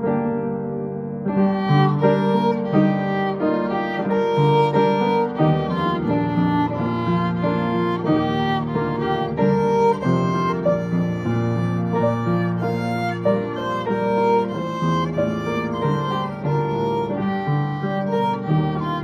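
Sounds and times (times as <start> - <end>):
piano chords and runs: 0.0 - 19.0
long held melody notes: 1.3 - 19.0.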